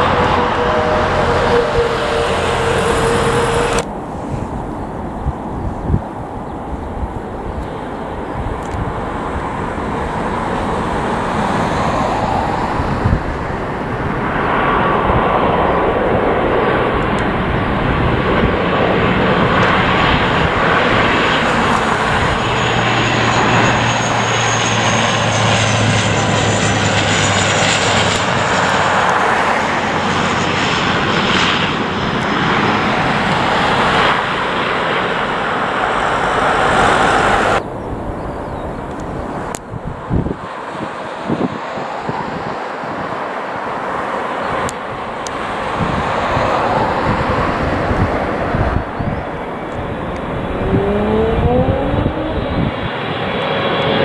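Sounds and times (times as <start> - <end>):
jet airliner engines passing: 0.0 - 54.0.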